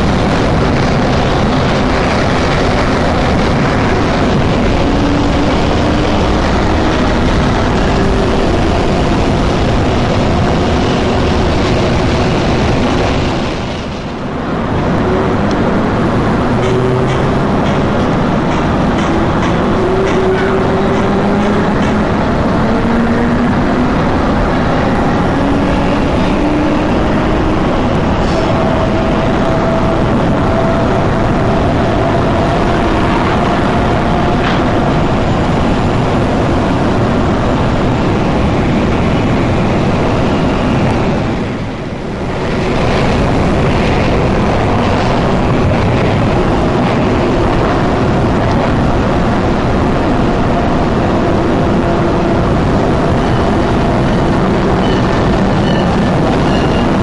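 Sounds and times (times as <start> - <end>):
electric train rumble and rail noise: 0.0 - 57.0
train motor whine: 0.0 - 57.0.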